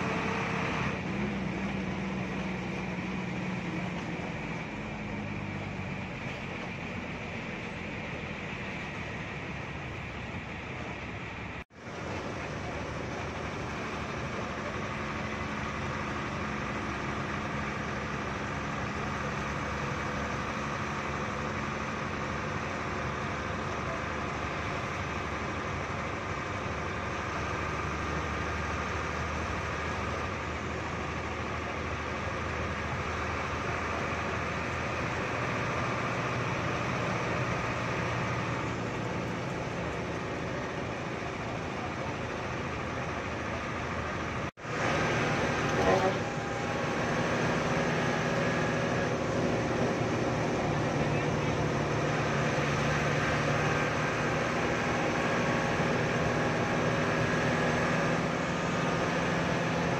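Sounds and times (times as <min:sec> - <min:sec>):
bus engine running: 0:00.0 - 0:59.9
road and cabin noise: 0:00.0 - 0:59.9.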